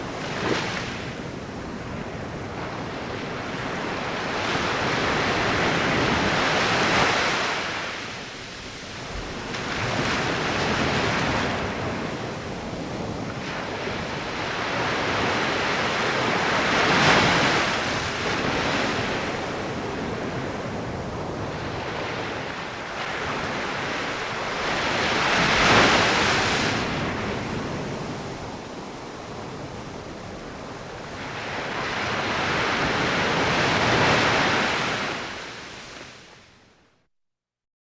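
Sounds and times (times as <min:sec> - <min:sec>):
ocean waves washing onto shore: 0:00.0 - 0:36.6.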